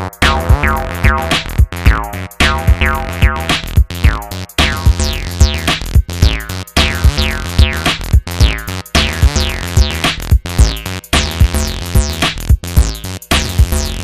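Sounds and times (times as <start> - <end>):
electronic music: 0.0 - 14.0.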